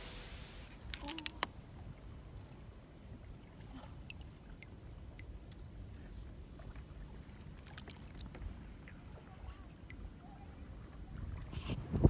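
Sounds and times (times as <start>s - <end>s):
water lapping and dripping: 0.0s - 12.0s.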